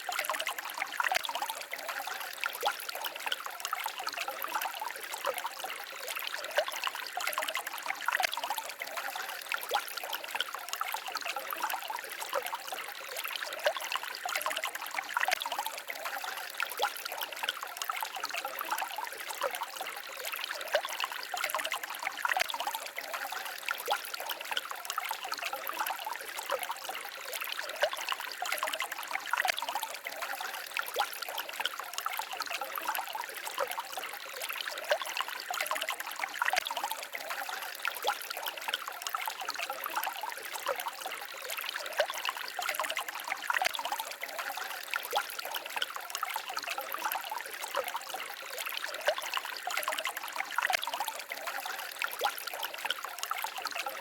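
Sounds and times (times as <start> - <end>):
forest stream babbling over stones: 0.0 - 54.0.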